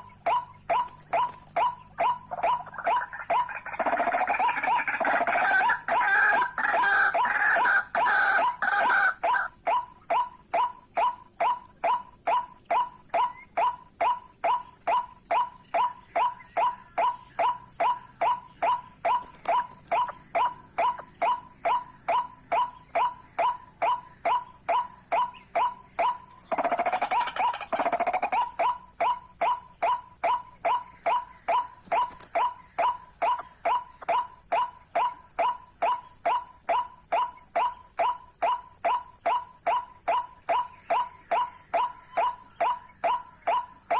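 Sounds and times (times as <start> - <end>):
harsh croaking bird chorus: 0.0 - 43.9.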